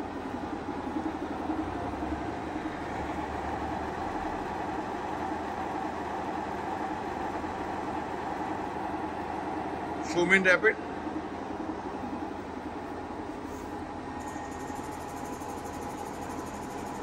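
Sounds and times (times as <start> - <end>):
milling machine feed motor hum: 0.0 - 17.0.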